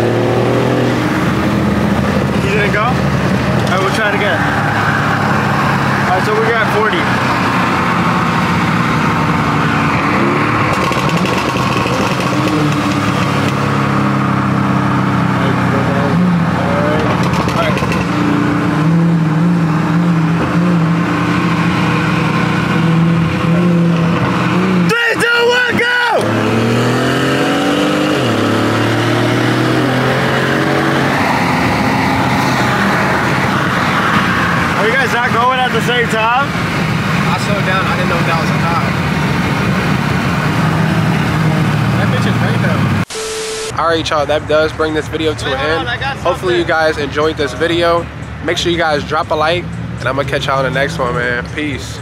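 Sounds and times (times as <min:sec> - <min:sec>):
car engine droning: 0:00.0 - 0:52.0
road and wind noise: 0:00.0 - 0:52.0.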